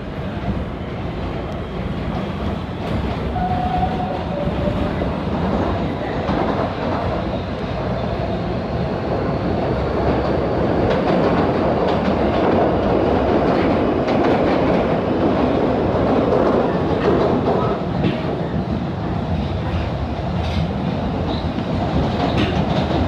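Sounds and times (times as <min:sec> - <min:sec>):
subway wheels rumbling on rail: 0:00.0 - 0:23.0.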